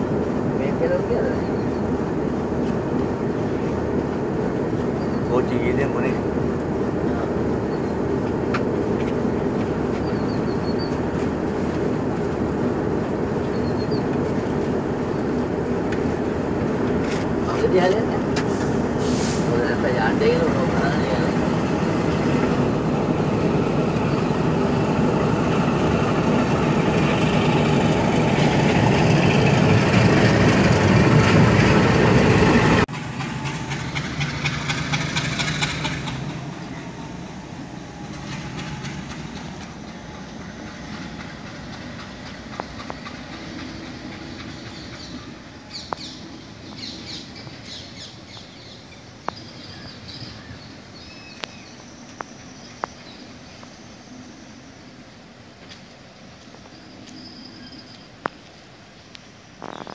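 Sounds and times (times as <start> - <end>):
locomotive pulling away: 0.0 - 48.7
locomotive engine wheels and wind: 0.0 - 59.9.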